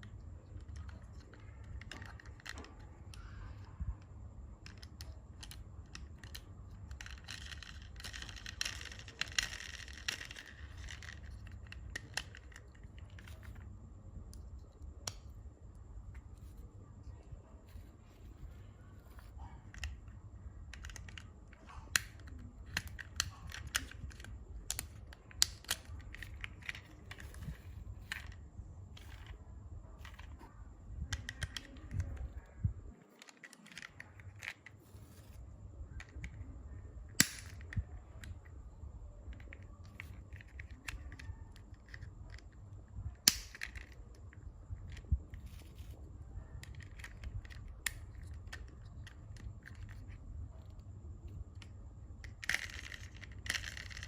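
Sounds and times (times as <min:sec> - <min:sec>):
hard plastic toy clicking: 0:00.0 - 0:13.7, 0:14.3 - 0:15.4, 0:19.1 - 0:28.4, 0:30.0 - 0:32.4, 0:33.1 - 0:36.4, 0:37.2 - 0:38.7, 0:39.3 - 0:50.8, 0:51.5 - 0:54.0
steady low hum: 0:00.0 - 0:54.0.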